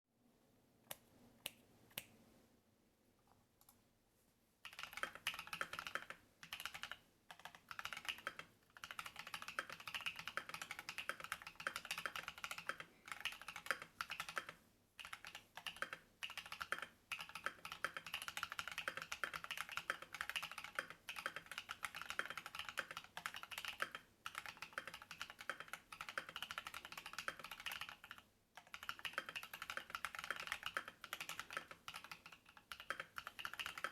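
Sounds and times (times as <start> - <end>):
mechanical keyboard typing: 4.6 - 33.9.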